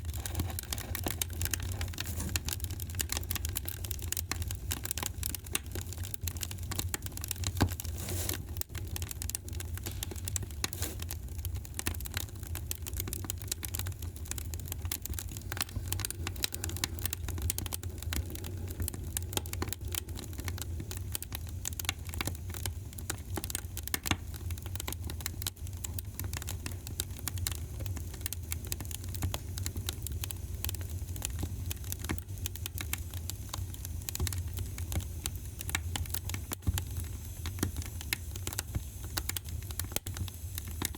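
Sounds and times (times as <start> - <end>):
low fire rumble: 0.0 - 40.9
wood fire crackling: 0.0 - 40.9.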